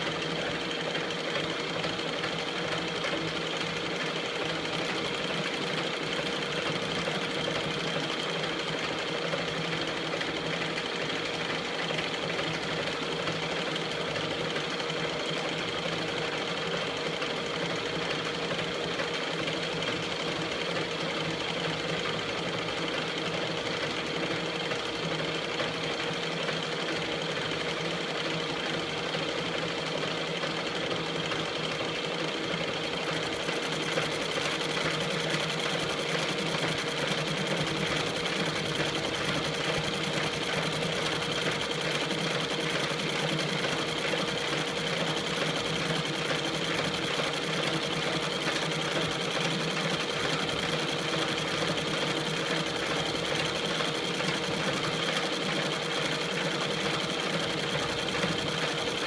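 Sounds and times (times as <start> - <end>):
metal lathe gearing whine: 0.0 - 59.0.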